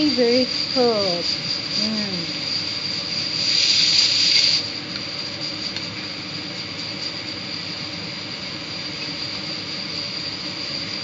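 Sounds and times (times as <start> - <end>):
broth boiling and steam hissing: 0.0 - 11.0
steady high whine: 0.0 - 11.0.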